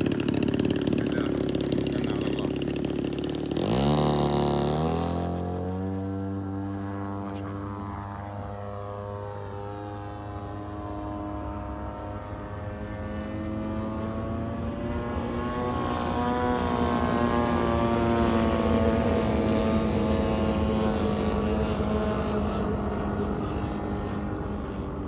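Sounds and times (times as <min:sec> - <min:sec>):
model aircraft engine flying past: 0:00.0 - 0:25.0.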